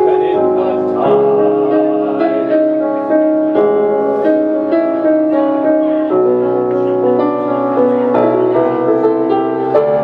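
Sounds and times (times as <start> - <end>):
piano playing sustained chords: 0.0 - 10.0.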